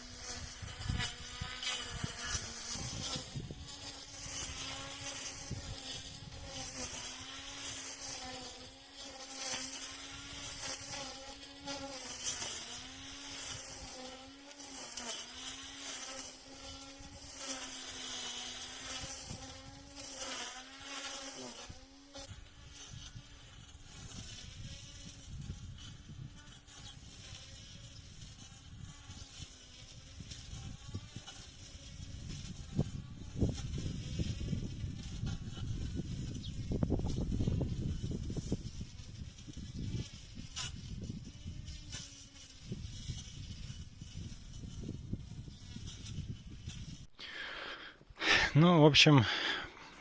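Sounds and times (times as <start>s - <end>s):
string trimmer motor whine: 0.0s - 46.8s.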